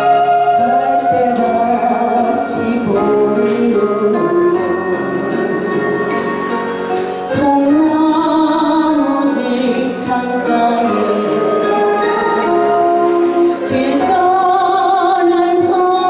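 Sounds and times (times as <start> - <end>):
woman singing: 0.0 - 6.2, 7.3 - 16.0
instrumental accompaniment: 0.0 - 16.0.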